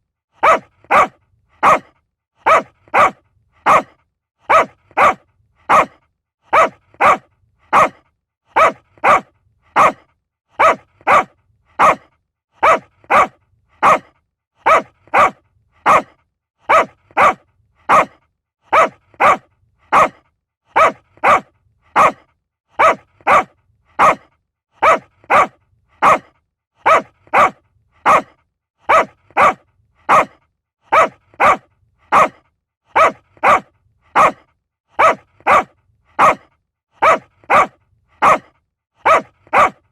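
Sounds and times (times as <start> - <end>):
small dog barking: 0.4 - 39.9.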